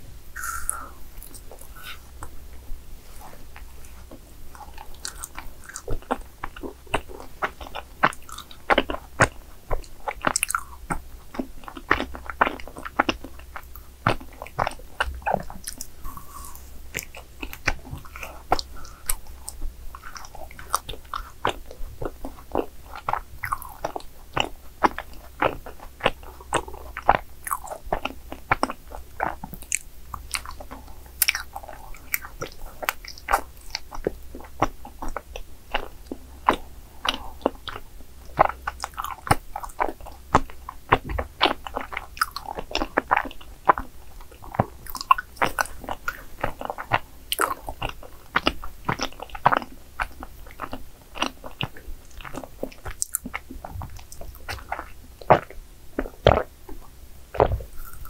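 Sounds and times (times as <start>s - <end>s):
close chewing mouth clicks: 0.4s - 2.4s, 3.6s - 58.0s.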